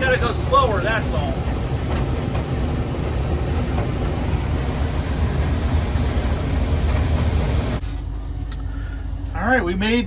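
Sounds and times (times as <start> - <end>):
threshing machinery hum: 0.0 - 9.0
combine harvester engine drone: 0.0 - 10.0.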